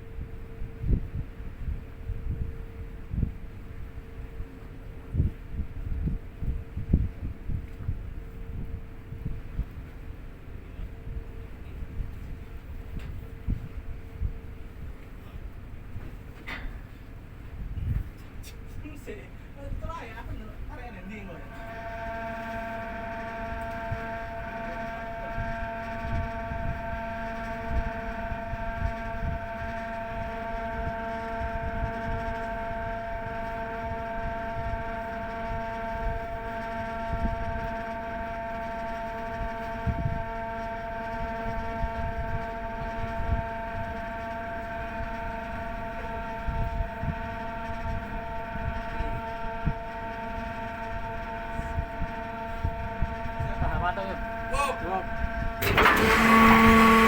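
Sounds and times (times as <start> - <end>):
ship machinery droning: 0.0 - 57.0
wind buffeting microphone: 0.0 - 57.0.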